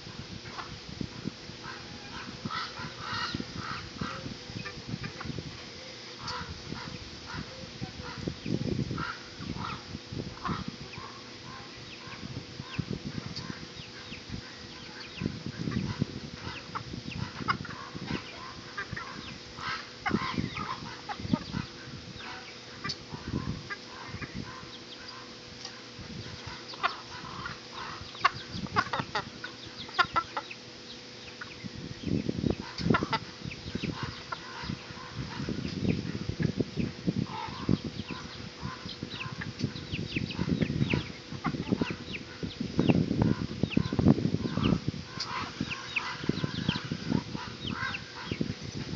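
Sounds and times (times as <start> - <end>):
fowl clucking and chirping: 0.4 - 48.9.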